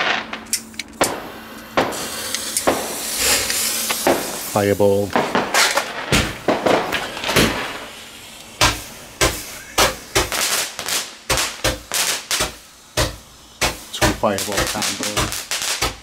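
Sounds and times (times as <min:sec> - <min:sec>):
roman candle firing pops: 0:00.0 - 0:16.0.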